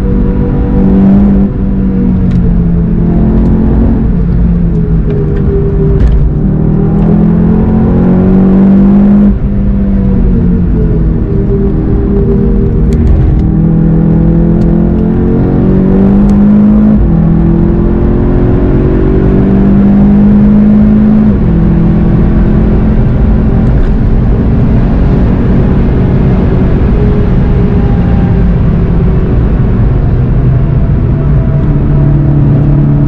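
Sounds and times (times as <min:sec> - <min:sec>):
car engine under full throttle: 0:00.0 - 0:33.0.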